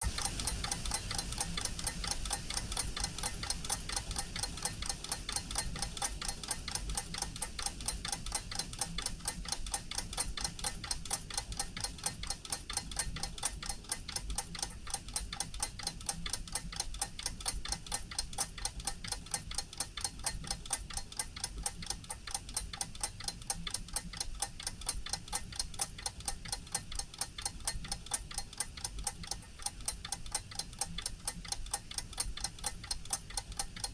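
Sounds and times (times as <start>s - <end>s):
watch ticking: 0.0s - 33.9s.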